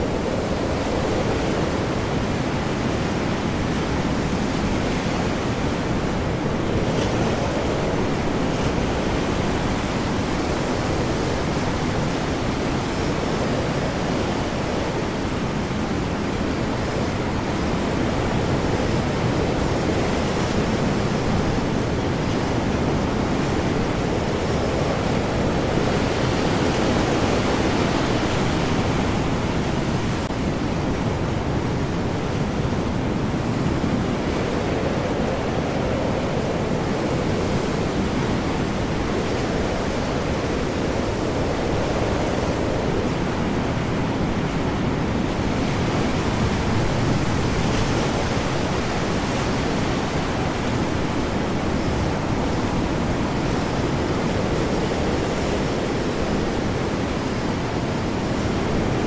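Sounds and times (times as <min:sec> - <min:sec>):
heavy waves: 0:00.0 - 0:59.0
high wind: 0:00.0 - 0:59.0.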